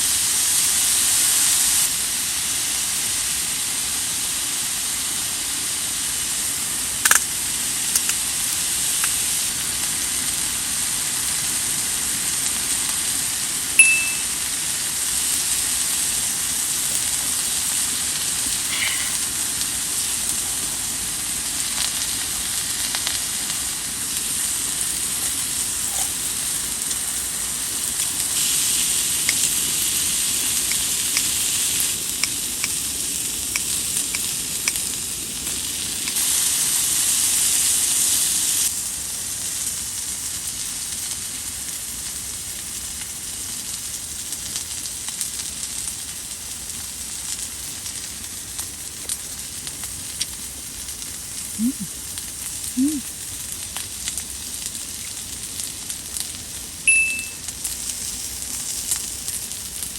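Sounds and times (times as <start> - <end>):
food sizzling in oiled pan: 0.0 - 59.9.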